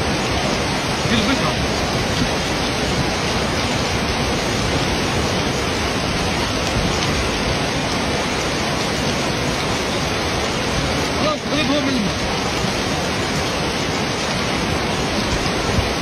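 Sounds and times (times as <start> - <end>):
floodwater rushing down a street: 0.0 - 16.0
heavy rain: 0.0 - 16.0.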